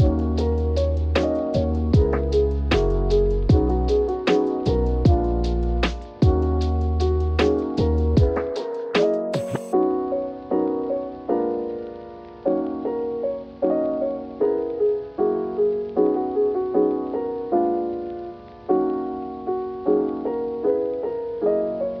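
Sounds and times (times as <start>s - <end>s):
slow solo piano chords: 0.0s - 22.0s.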